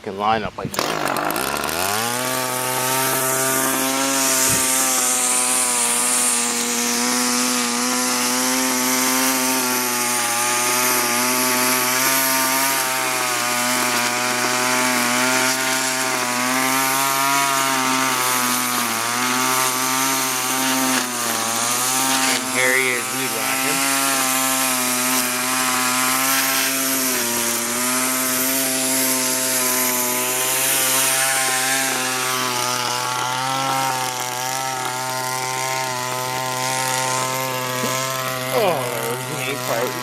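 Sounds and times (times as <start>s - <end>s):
string trimmer engine full throttle: 0.6s - 40.0s.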